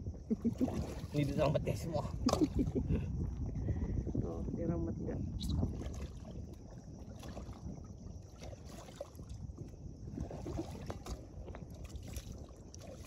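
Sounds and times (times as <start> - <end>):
moving seawater: 0.0 - 5.0, 5.6 - 13.0
wind rumbling on microphone: 0.0 - 13.0.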